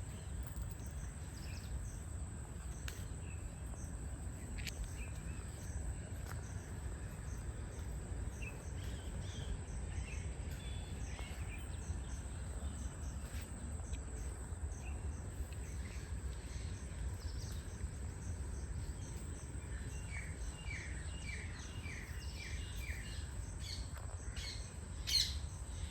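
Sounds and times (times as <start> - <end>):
low wind rumble: 0.0 - 25.9.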